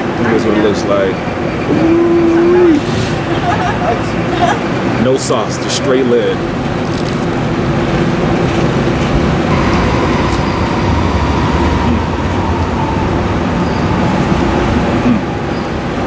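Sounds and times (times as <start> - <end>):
large vehicle engine rumbling: 0.0 - 16.0
street traffic noise: 0.0 - 16.0.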